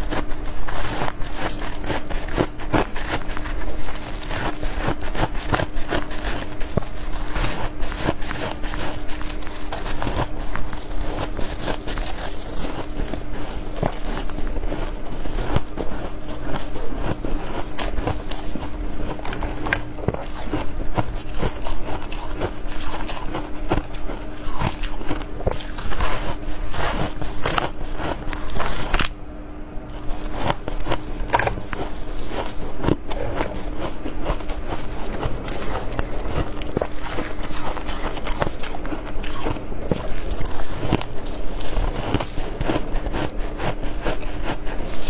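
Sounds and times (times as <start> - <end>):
ice being chewed crunching: 0.0 - 29.2, 29.8 - 45.0.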